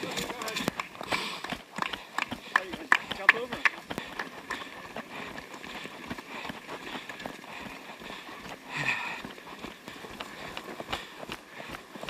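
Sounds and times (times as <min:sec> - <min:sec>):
footsteps on dirt trail: 0:00.0 - 0:12.0.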